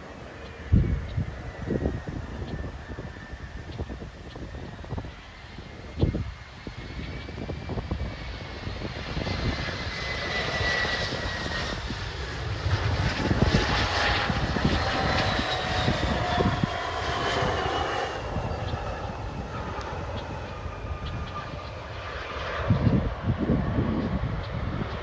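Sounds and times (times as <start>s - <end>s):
jet engine roar: 0.0s - 25.0s
jet engines whining: 0.0s - 25.0s
wind rumbling on microphone: 0.0s - 25.0s.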